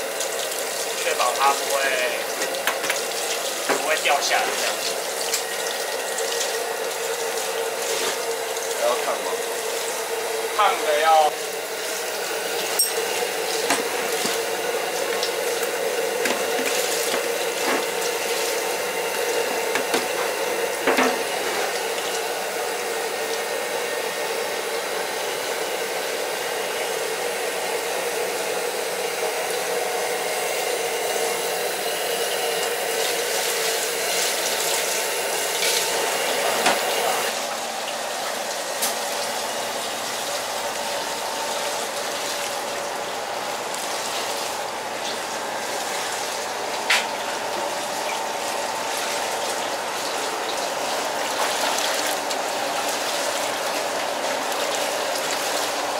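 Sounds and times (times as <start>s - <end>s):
running water rushing: 0.0s - 23.5s, 32.4s - 55.9s.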